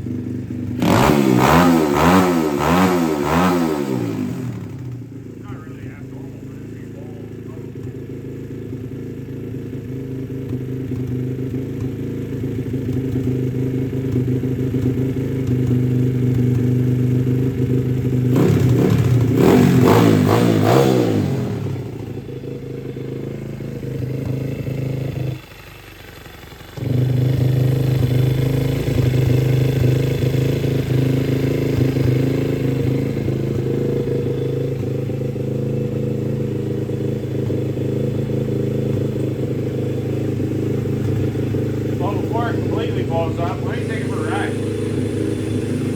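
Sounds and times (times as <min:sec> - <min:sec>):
motorbike engine running and revving: 0:00.0 - 0:45.9.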